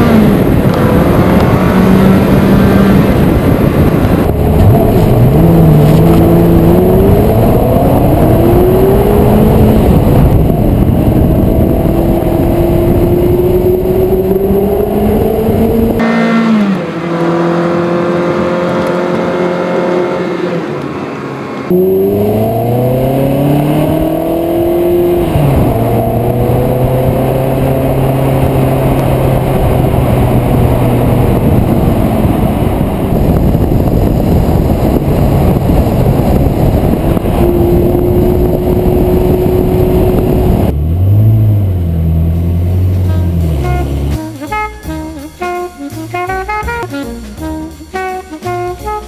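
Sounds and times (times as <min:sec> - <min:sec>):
car engine accelerating: 0:00.0 - 0:49.0
road and wind noise: 0:00.0 - 0:49.0.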